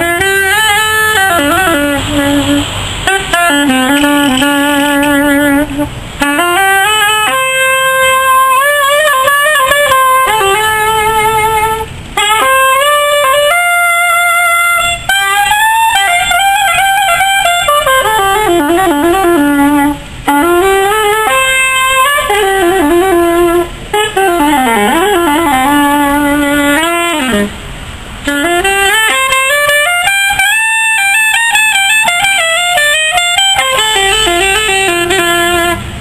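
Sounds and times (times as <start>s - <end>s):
soprano saxophone melody: 0.0s - 36.0s.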